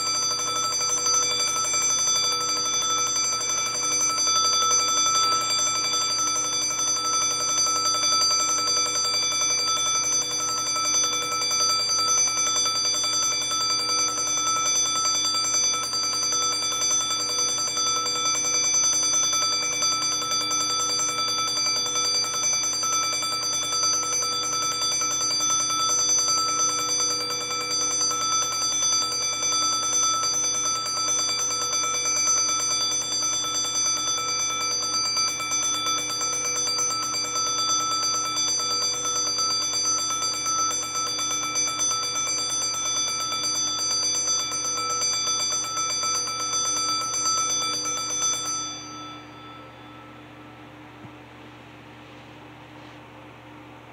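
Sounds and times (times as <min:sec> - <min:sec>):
alarm clock ringing: 0:00.0 - 0:50.8.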